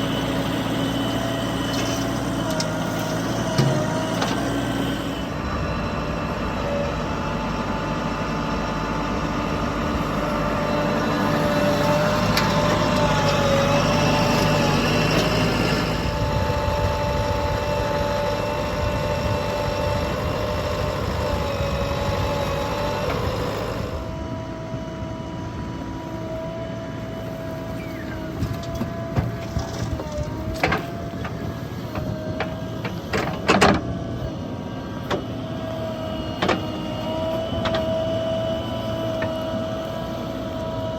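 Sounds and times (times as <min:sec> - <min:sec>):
heavy machinery diesel engines: 0:00.0 - 0:40.9.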